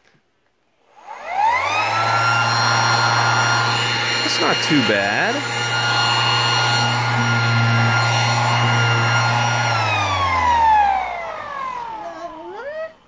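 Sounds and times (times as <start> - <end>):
motor spinning down: 0.8 - 13.0
orbital sander humming: 0.9 - 12.6.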